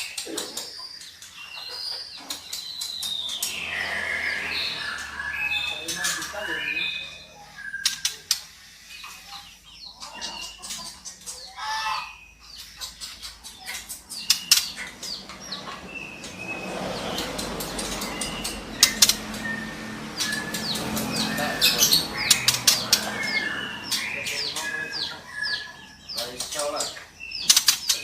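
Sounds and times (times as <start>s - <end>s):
bird calling with clicks and whistles: 0.0s - 9.4s, 10.0s - 16.6s, 17.2s - 28.0s.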